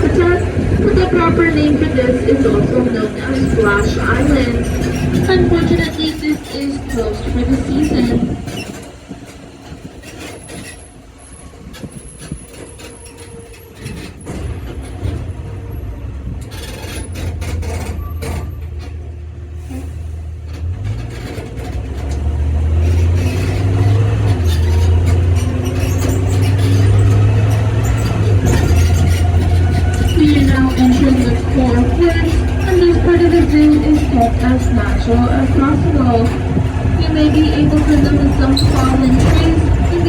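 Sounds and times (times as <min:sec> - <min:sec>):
tram engine rumbling: 0:00.0 - 0:40.0.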